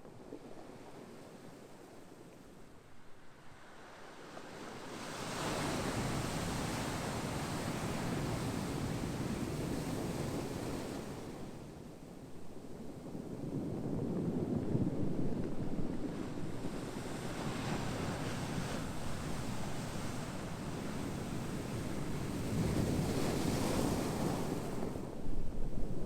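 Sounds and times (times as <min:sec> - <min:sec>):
ocean waves rumbling and hissing: 0:03.2 - 0:26.0.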